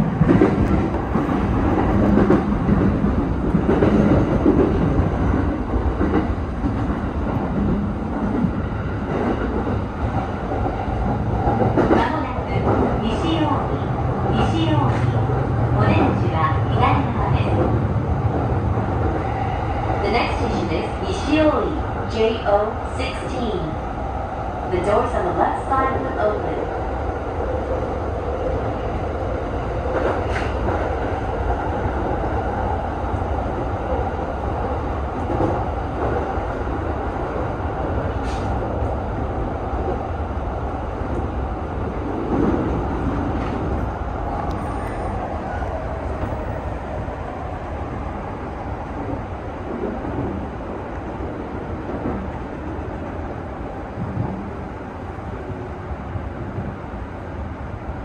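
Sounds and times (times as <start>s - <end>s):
train wheels on rail: 0.0s - 58.0s.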